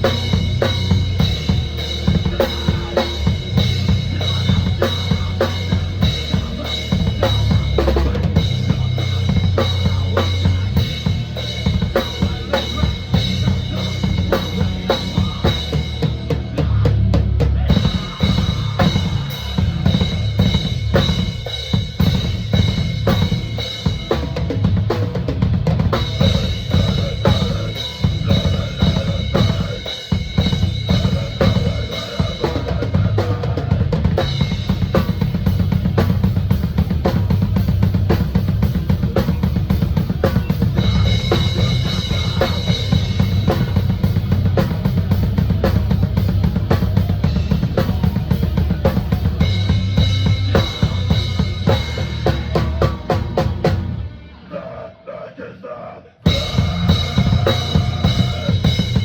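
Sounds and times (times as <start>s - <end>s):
drum kit played fast: 0.0s - 54.1s, 56.2s - 59.0s.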